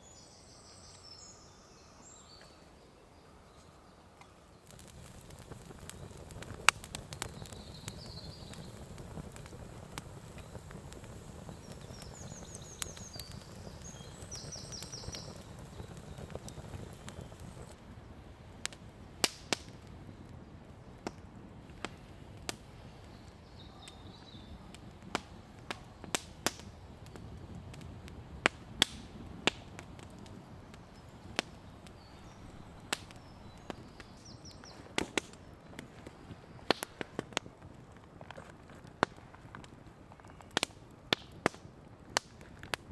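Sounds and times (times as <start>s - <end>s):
campfire crackling: 0.0s - 42.9s
burning wood popping: 3.6s - 42.9s.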